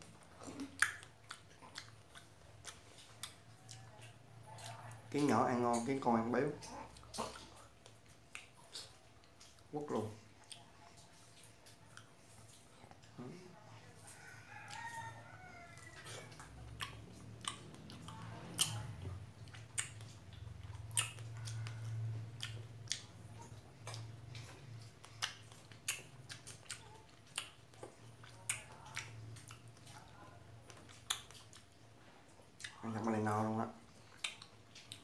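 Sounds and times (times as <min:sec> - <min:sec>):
person chewing strawberries: 0:00.0 - 0:35.0.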